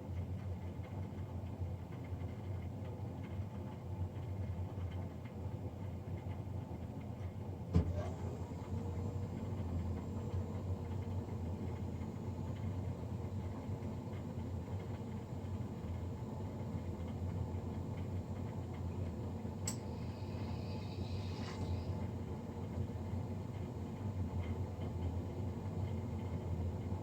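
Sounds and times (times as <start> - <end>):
boiler fan humming: 0.0 - 27.0.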